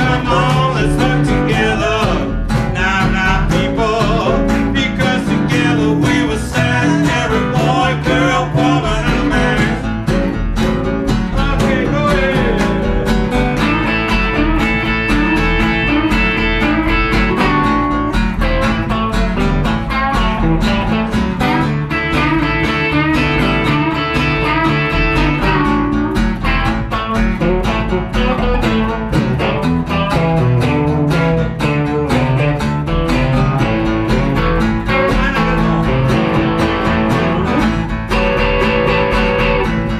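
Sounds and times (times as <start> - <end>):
electric guitar: 0.0 - 39.9
live blues band: 0.0 - 39.9.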